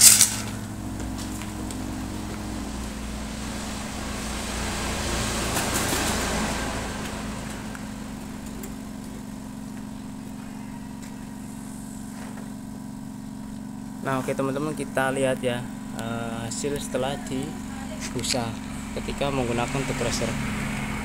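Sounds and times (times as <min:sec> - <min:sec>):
road vehicle passing: 0:00.0 - 0:12.3, 0:15.4 - 0:21.0
low engine hum: 0:00.0 - 0:21.0.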